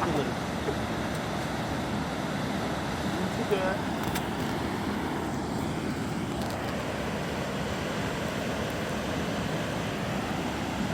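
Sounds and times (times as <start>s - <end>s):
river rushing in flood: 0.0s - 10.9s.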